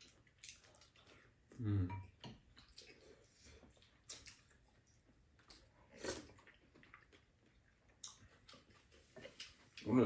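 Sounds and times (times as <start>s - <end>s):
mouth and spoon eating noises: 0.0s - 10.0s.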